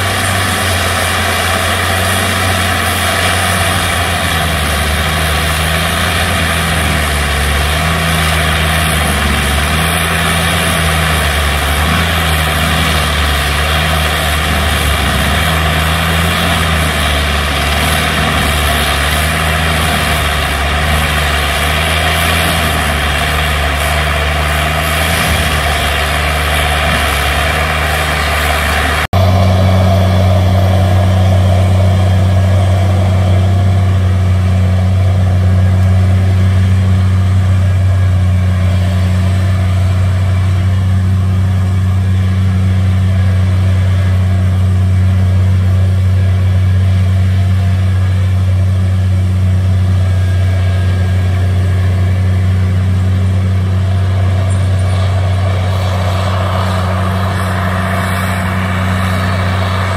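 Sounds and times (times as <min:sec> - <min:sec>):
diesel engine running: 0:00.0 - 0:59.9
mulching head grinding: 0:00.0 - 0:59.9.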